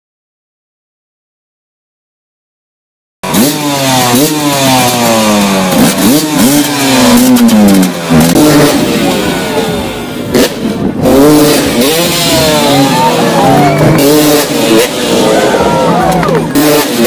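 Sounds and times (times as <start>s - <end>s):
motocross engines revving: 3.2s - 17.0s.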